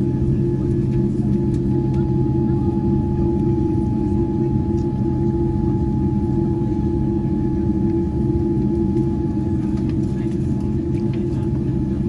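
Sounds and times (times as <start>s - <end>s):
low rumble inside aircraft cabin: 0.0s - 12.0s
mid-pitched hum: 0.0s - 12.0s.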